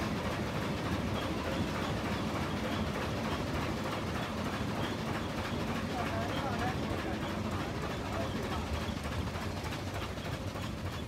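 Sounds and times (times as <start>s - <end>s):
cog railway train rumbling: 0.0s - 11.0s.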